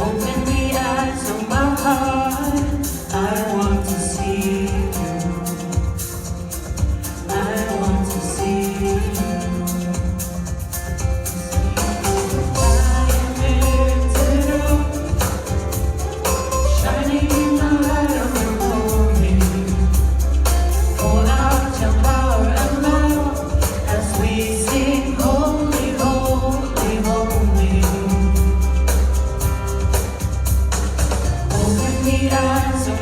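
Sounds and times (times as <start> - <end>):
person singing: 0.0 - 30.0, 31.5 - 33.0
band playing: 0.0 - 33.0.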